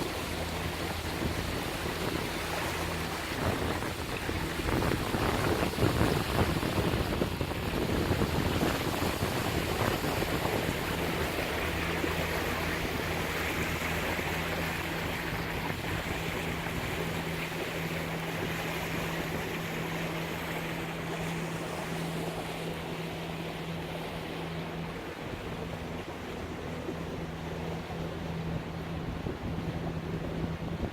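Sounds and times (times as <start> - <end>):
engine hum: 0.0 - 30.9
water rushing along hull: 0.0 - 30.9
wind buffeting microphone: 0.0 - 30.9.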